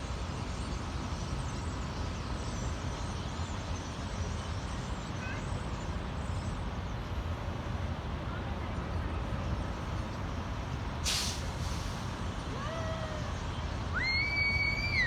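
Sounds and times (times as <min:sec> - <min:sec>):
low rumble of freeway traffic: 0:00.0 - 0:15.0.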